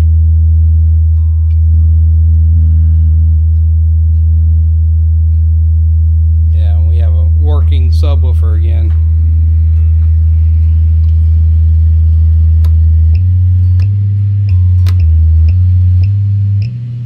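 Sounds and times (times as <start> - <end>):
subwoofer low test tone: 0.0 - 17.0.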